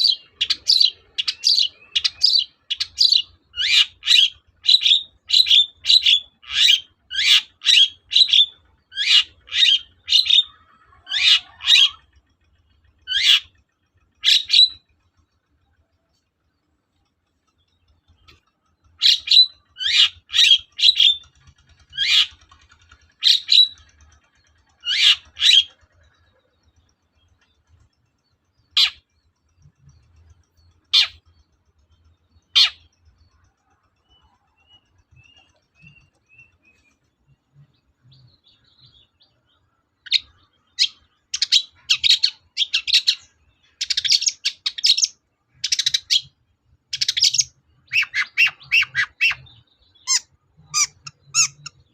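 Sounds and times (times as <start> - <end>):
shrike calling: 0.0 - 51.9.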